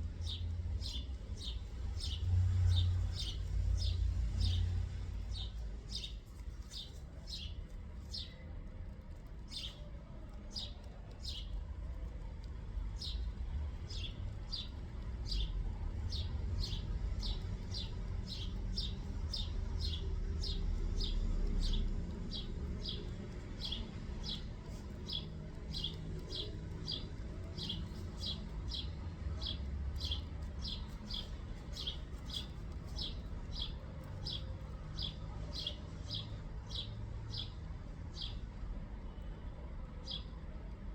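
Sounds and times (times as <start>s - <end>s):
steady low rumble: 0.0s - 35.6s.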